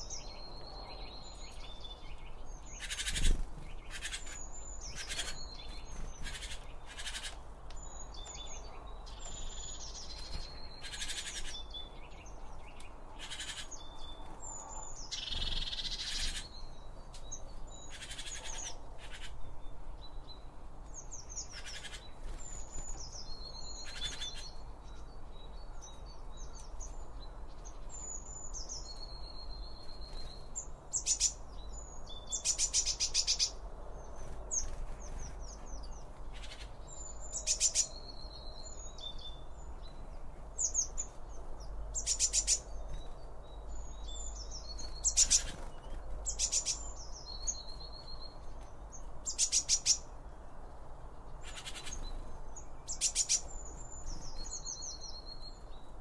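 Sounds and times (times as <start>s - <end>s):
garden birds calling: 0.0s - 56.0s.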